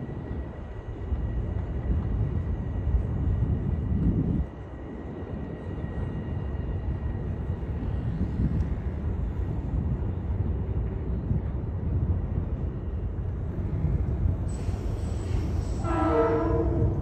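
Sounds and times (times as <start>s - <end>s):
city background noise: 0.0s - 17.0s
commuter train rumble: 0.0s - 17.0s.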